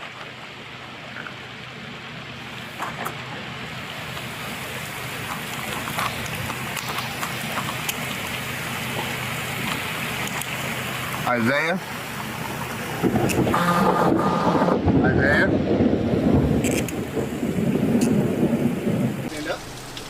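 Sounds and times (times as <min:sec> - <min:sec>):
raindrops ticking on surfaces: 0:00.0 - 0:15.0, 0:15.7 - 0:20.0
heavy rain pouring: 0:00.4 - 0:20.0.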